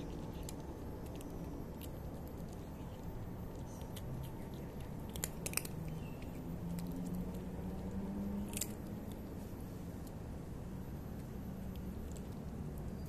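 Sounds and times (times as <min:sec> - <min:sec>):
cat chewing dry kibble: 0:00.0 - 0:13.0.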